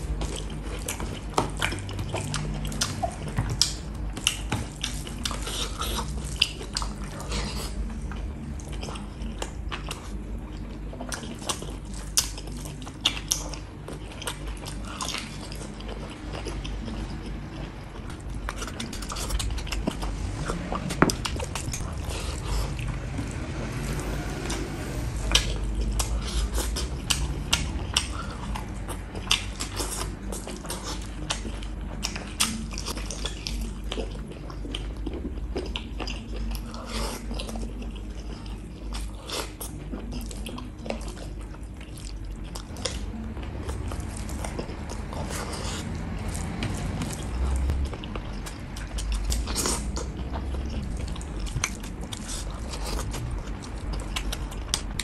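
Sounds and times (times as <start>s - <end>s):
close chewing and biting: 0.0s - 55.0s.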